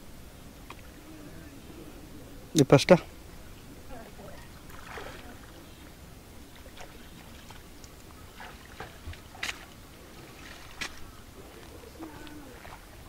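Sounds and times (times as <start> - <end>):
water sloshing: 0.5 - 13.0
soft water splashes: 0.6 - 13.0.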